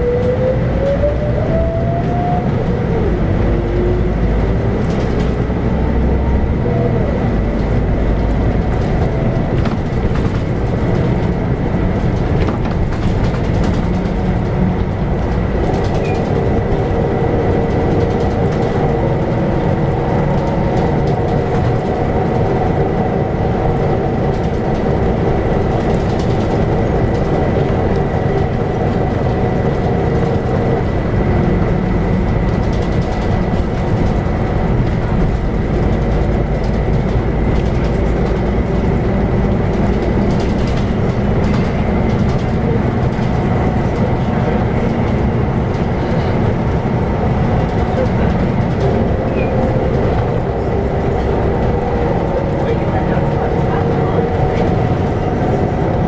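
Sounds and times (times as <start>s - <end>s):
bus diesel engine running: 0.0s - 56.0s
road rumble and rattles: 0.0s - 56.0s.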